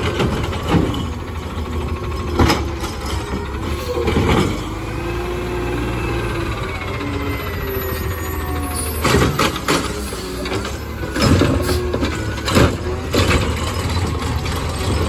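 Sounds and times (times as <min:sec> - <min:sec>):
garbage truck engine running: 0:00.0 - 0:15.0.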